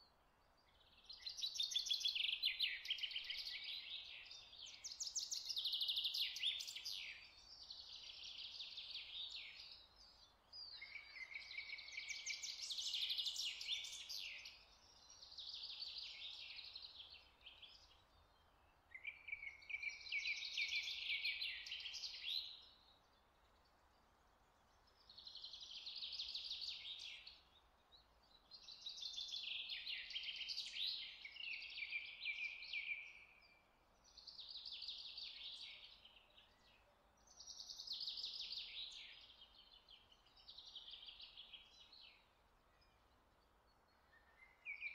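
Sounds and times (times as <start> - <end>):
songbird chirping trills: 0.0 - 44.9.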